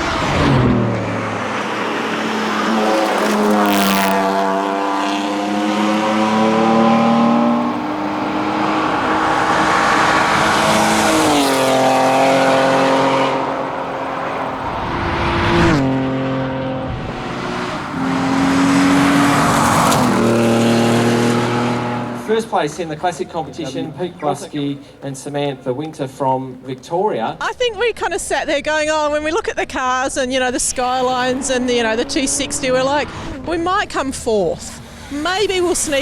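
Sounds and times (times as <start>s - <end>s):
rally car engine pulling hard: 0.0s - 26.4s, 30.4s - 36.0s
tyre and road noise: 0.0s - 36.0s.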